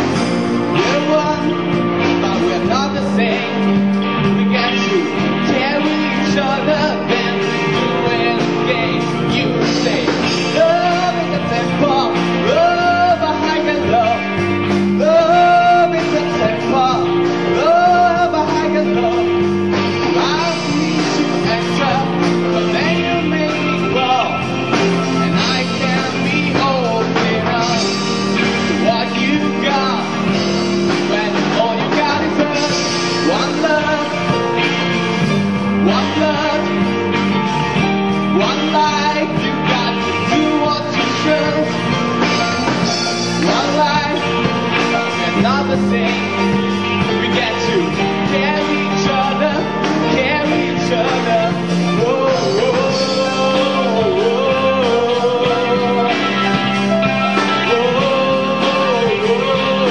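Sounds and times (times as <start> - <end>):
man singing into microphone: 0.0 - 35.0, 35.8 - 36.9, 38.2 - 59.9
instrumental accompaniment: 0.0 - 59.9.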